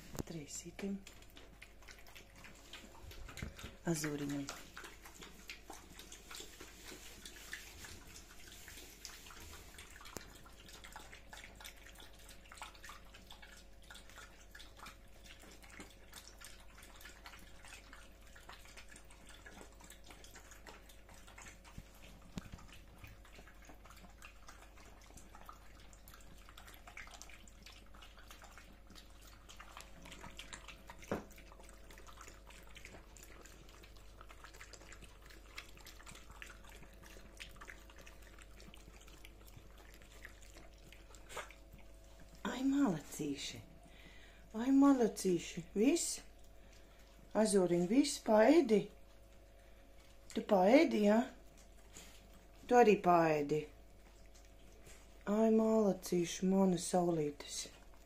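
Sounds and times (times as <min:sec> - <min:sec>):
dogs chewing and licking: 0:00.0 - 0:58.0
faint steady hum: 0:00.0 - 0:58.0.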